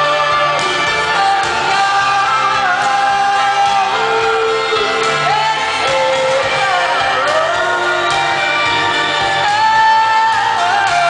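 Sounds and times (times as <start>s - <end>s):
live rock band: 0.0s - 11.0s
woman singing: 0.0s - 11.0s.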